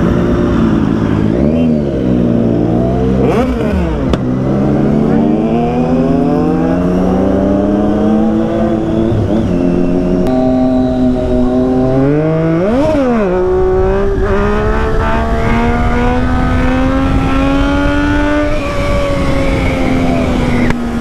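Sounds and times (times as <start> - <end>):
motorcycle engine running: 0.0 - 21.0
wind rush on microphone: 3.8 - 21.0.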